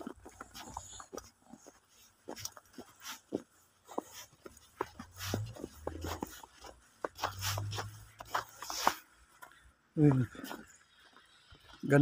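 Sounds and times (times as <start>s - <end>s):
footsteps crunching in snow: 0.0s - 12.0s.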